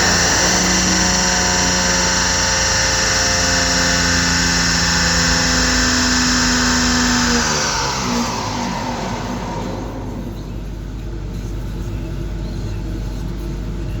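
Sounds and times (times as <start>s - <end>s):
car engine winding down to idle: 0.0s - 14.0s.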